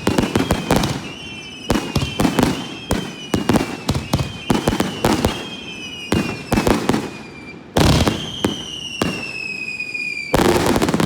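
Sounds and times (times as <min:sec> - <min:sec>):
firework bangs: 0:00.0 - 0:11.0
descending high whistle: 0:00.2 - 0:03.5, 0:04.1 - 0:10.6.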